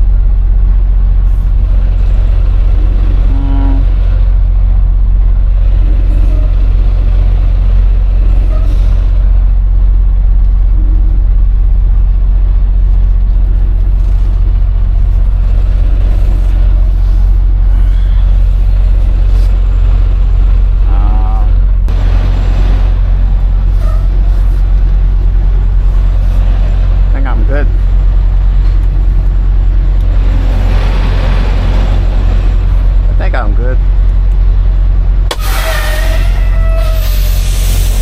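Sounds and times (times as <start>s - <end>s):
diesel truck engine droning: 0.0s - 38.0s.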